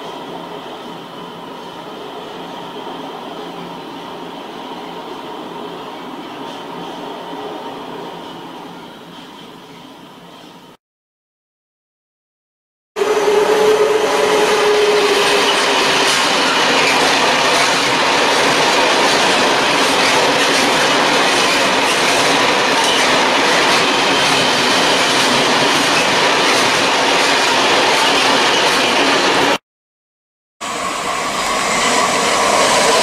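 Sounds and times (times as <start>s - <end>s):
freight train wheels on rails: 0.0s - 10.7s, 13.0s - 29.6s, 30.6s - 33.0s.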